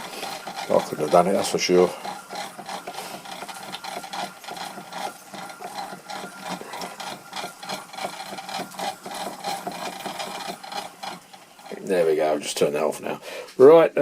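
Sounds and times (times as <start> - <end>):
model steam engine chuffing: 0.0 - 13.2.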